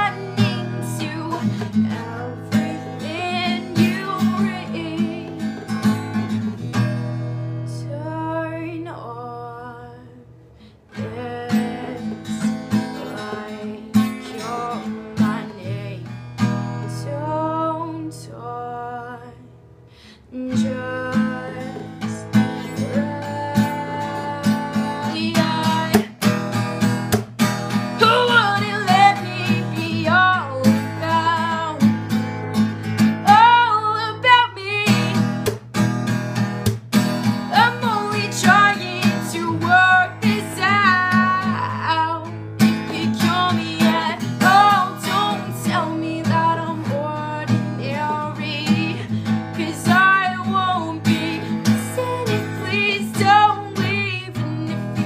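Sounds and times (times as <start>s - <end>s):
acoustic guitar strumming: 0.0s - 8.2s, 10.9s - 19.8s, 20.4s - 55.0s
woman singing: 0.0s - 19.6s, 20.2s - 32.2s, 32.9s - 35.6s, 37.2s - 55.0s.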